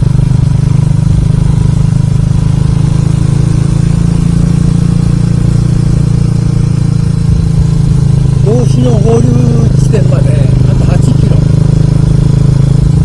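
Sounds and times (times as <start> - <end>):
motorcycle engine drone: 0.0 - 13.0
wind and road noise: 0.0 - 13.0.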